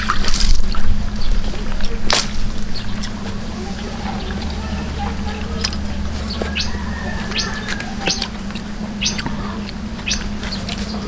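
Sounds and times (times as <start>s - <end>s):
steady low hum: 0.0s - 11.0s
wet chewing and lip-smacking: 0.0s - 11.0s.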